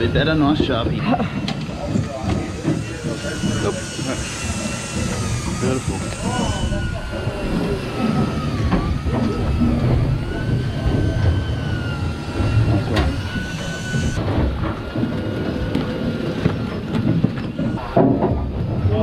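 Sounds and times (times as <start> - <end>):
diesel engine rumble: 0.0 - 19.0
electric winch whining: 0.0 - 19.0.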